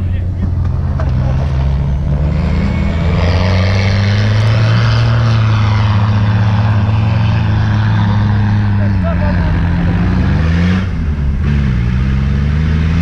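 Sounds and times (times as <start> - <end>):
vehicle engine under load: 0.0 - 13.0.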